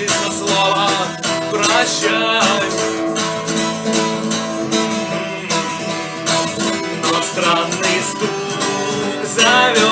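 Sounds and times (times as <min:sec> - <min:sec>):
acoustic guitar strumming chords: 0:00.0 - 0:09.9.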